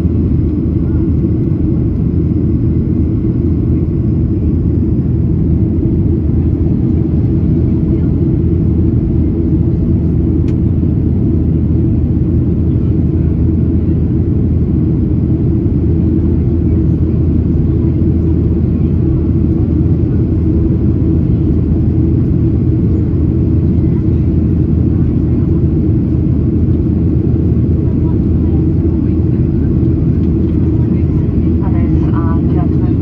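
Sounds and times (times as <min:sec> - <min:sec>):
aircraft cabin engine rumble: 0:00.0 - 0:33.0.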